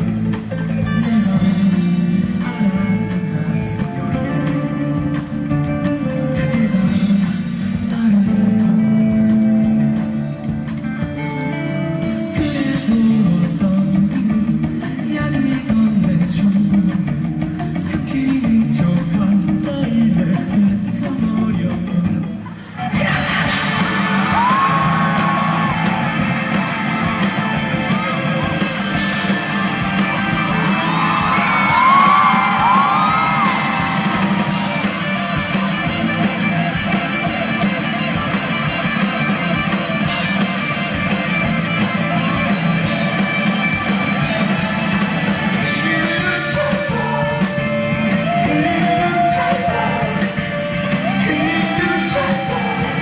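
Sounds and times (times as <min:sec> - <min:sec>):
rock band playing live: 0:00.0 - 0:53.0.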